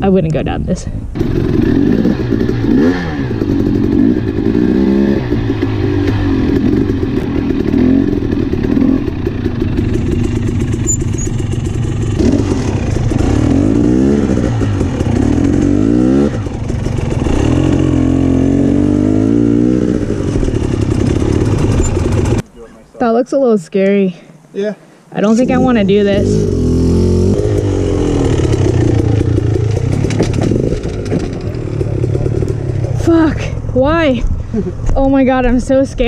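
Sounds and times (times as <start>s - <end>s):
dirt bike engine revving: 1.2s - 22.4s, 25.2s - 34.2s.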